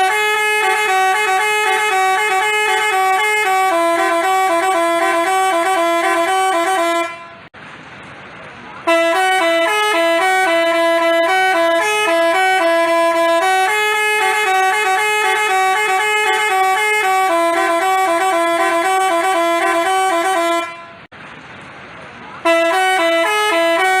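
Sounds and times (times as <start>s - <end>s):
multi-tone bus horn melody: 0.0s - 7.5s, 8.8s - 21.1s, 22.4s - 24.0s.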